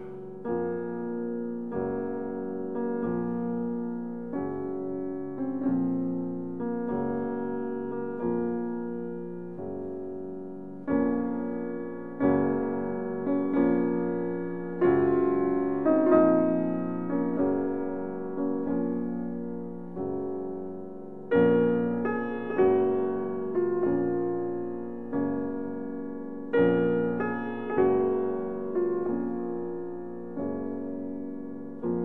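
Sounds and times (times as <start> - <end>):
gentle piano chords: 0.0 - 32.0.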